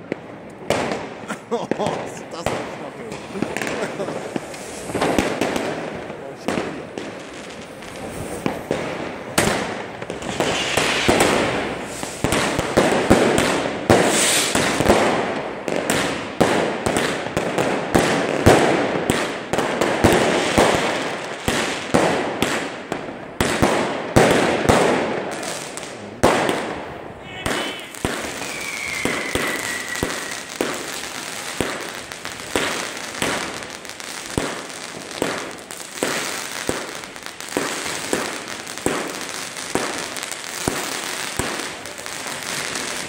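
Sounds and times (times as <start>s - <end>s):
fireworks bangs and crackles: 0.0s - 43.0s
fireworks hissing: 0.2s - 43.0s.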